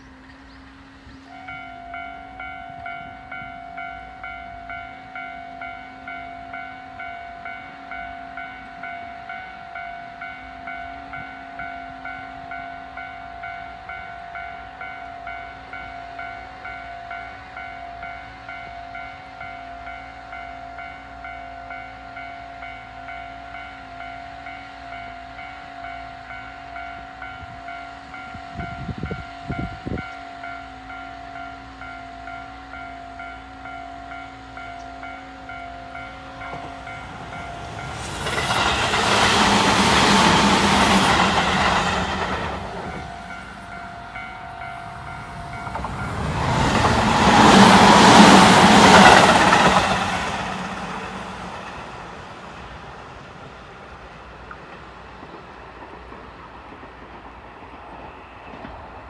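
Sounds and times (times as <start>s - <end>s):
level crossing warning bell: 0.0s - 52.8s.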